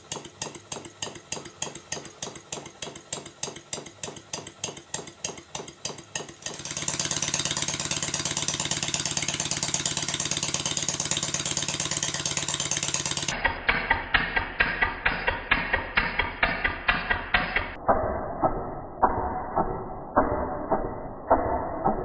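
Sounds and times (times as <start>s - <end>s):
model steam engine running: 0.0s - 17.8s.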